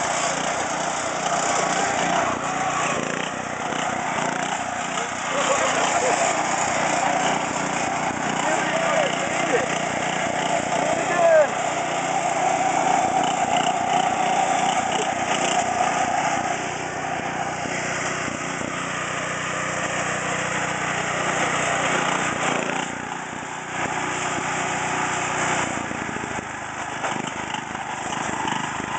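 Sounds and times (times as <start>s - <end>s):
lawn tractor engine running: 0.0s - 28.9s.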